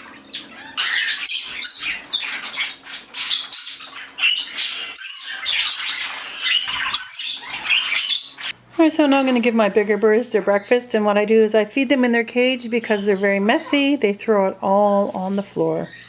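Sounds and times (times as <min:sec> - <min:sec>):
parakeets chirping and squawking: 0:00.0 - 0:16.0.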